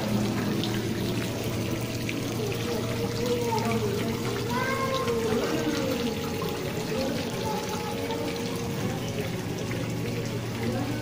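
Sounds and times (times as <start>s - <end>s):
water pouring and trickling: 0.0s - 11.0s.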